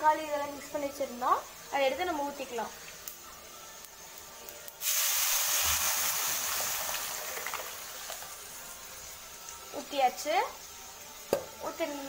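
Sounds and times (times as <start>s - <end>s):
liquid hissing in hot oil: 0.7s - 12.0s.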